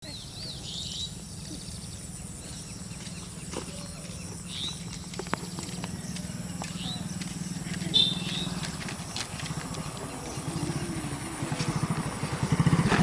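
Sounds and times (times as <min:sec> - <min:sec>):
bird call rising and falling: 0:00.2 - 0:11.0.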